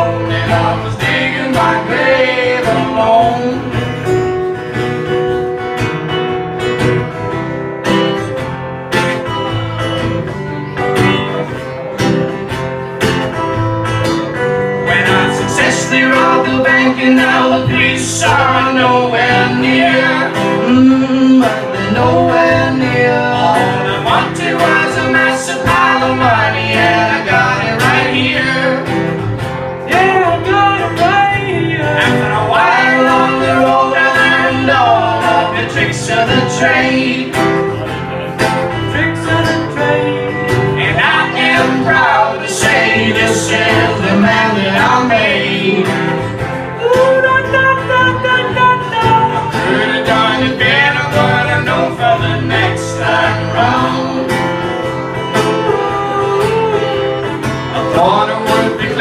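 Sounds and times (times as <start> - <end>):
person singing: 0.0 - 4.4, 14.8 - 59.0
acoustic guitar strumming: 0.0 - 59.0.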